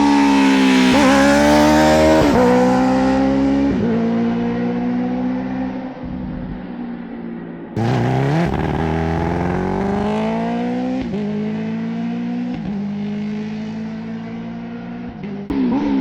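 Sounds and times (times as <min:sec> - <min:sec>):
motorcycle engine revving: 0:00.0 - 0:06.5, 0:07.8 - 0:16.0.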